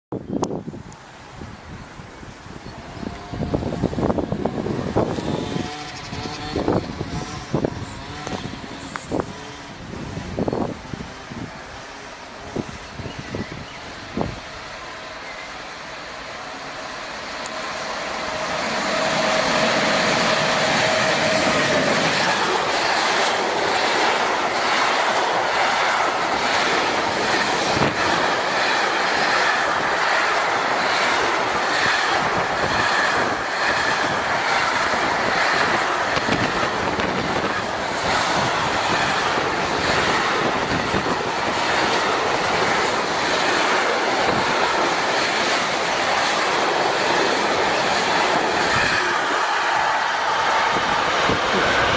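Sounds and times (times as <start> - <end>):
freight train passing: 0.2 - 51.9
steady locomotive tone: 0.2 - 51.9
wheel and rail noise: 0.2 - 51.9.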